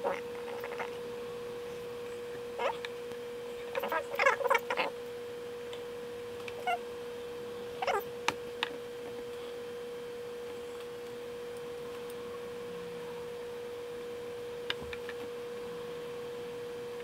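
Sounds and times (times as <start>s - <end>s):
steady pure tone: 0.0s - 17.0s.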